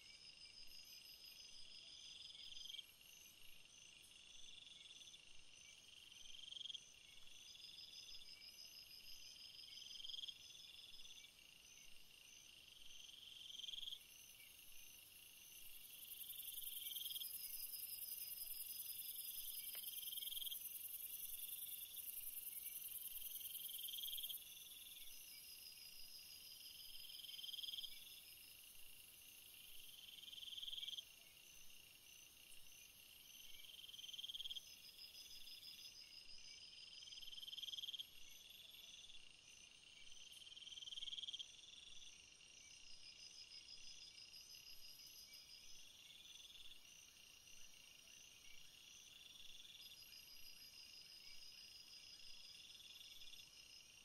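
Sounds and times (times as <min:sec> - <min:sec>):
insect call: 0:00.0 - 0:54.0.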